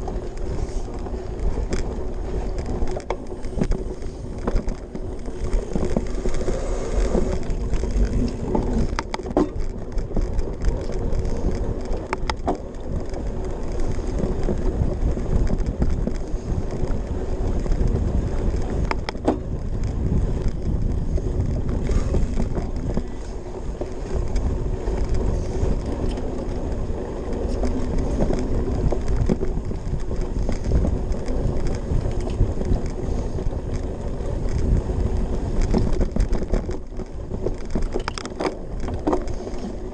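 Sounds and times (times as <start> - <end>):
bike clicks and knocks: 0.0 - 39.9
bike tyres rumbling and rattling: 0.0 - 39.9.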